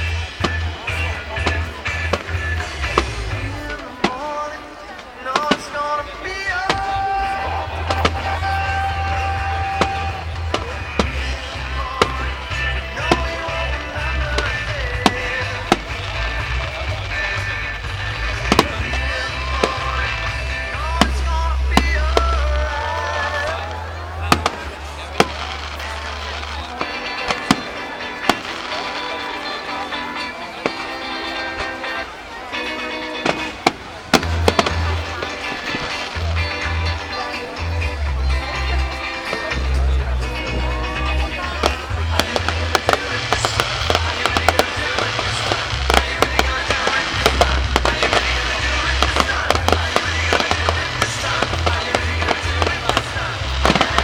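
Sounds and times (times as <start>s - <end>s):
fireworks exploding: 0.0s - 37.5s, 38.4s - 54.0s
background music: 0.0s - 54.0s.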